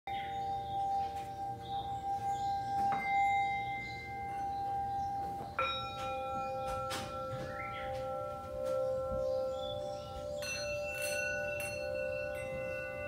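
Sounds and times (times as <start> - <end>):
ringing bell tones: 0.1 - 13.0.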